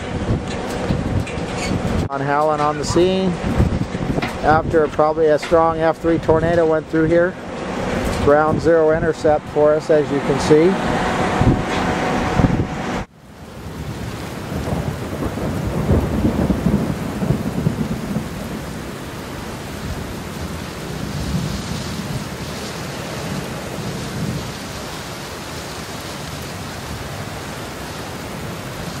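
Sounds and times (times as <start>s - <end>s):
steady rain: 0.0s - 11.6s, 12.4s - 29.0s
thunder rumbles: 0.0s - 29.0s.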